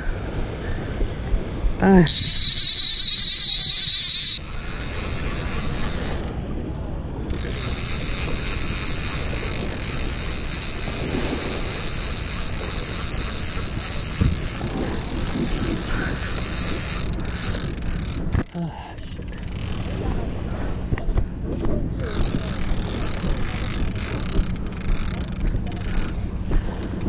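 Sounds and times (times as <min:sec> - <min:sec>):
fishing reel buzzing: 0:01.8 - 0:06.4, 0:07.3 - 0:20.3, 0:22.0 - 0:27.0.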